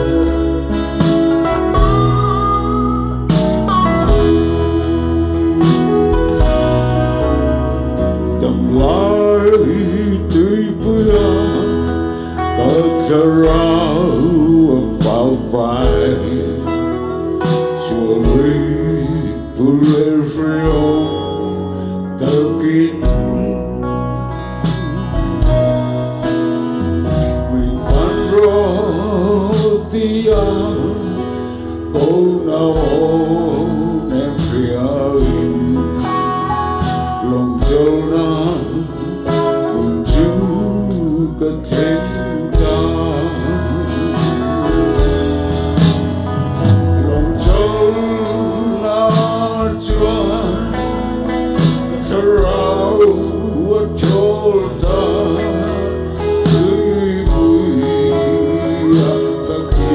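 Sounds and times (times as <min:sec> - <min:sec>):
live band playing a steady beat: 0:00.0 - 0:59.9
man singing into a microphone: 0:00.0 - 0:59.9.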